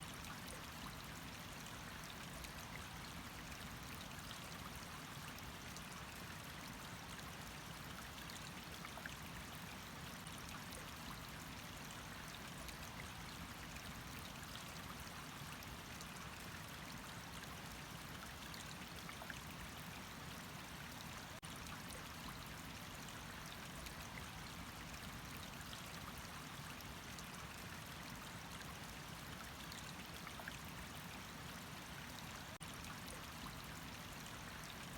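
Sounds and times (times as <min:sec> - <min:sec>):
faint drip-like ticks: 0:00.0 - 0:34.9.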